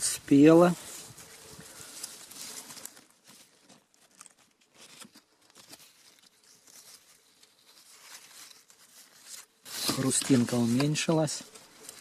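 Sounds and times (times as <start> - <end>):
hand rustling grapes and leaves: 0.0 - 12.0.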